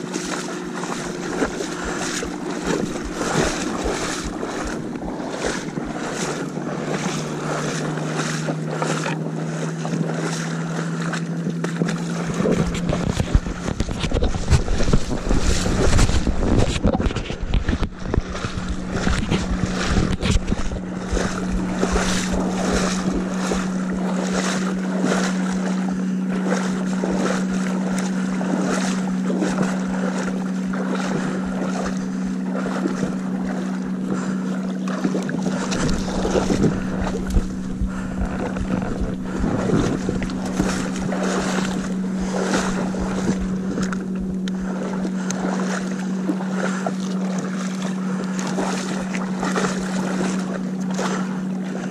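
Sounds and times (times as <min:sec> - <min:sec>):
wind buffeting microphone: 0:00.0 - 0:10.8, 0:11.4 - 0:47.2
boat engine humming: 0:00.0 - 0:51.9
water splashing: 0:00.0 - 0:51.9.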